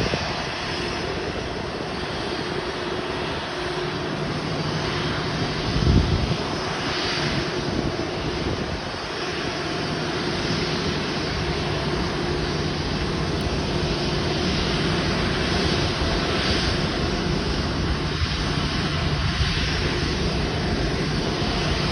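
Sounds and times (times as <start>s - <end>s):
jet engines running at low power: 0.0s - 21.9s.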